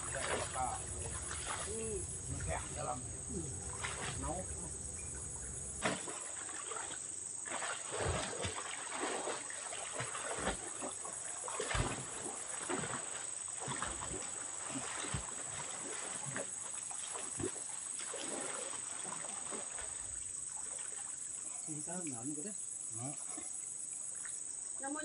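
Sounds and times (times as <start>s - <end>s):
water splashing and sloshing: 0.0s - 22.4s, 23.1s - 25.0s.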